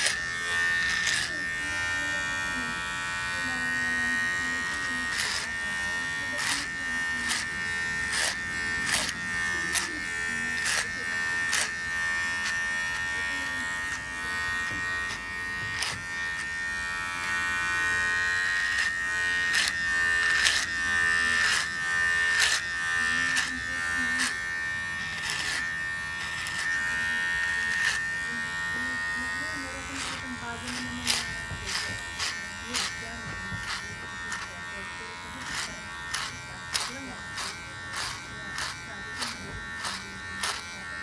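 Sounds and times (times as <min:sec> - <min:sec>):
electric hair clipper buzzing: 0:00.0 - 0:41.0
sharp scratchy clicks: 0:00.0 - 0:41.0.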